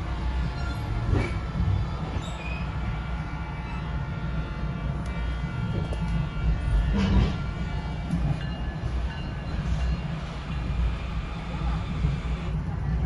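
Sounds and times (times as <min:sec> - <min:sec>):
train running along tracks: 0:00.0 - 0:13.0.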